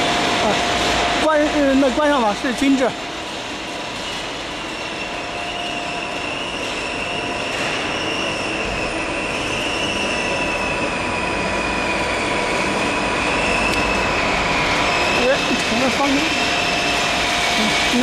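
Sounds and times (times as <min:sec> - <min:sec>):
mixer motor whine: 0:00.0 - 0:18.0.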